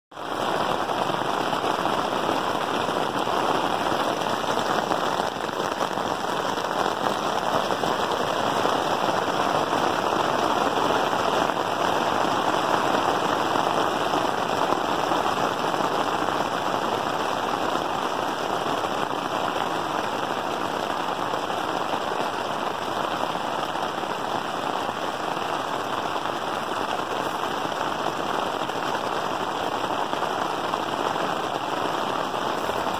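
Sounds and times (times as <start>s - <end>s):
hail pelting tent fabric: 0.1s - 32.9s.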